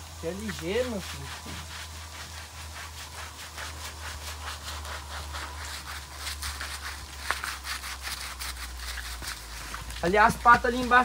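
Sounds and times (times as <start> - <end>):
scrub brush scrubbing wet coat: 0.0 - 11.0.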